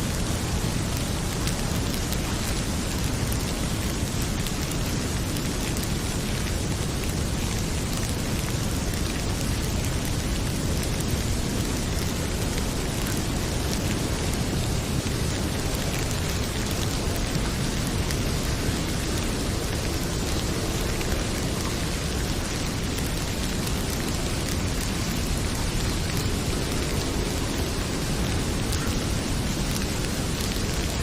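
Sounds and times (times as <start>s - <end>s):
heavy rain pouring: 0.0s - 31.0s
log fire crackling: 0.1s - 31.0s.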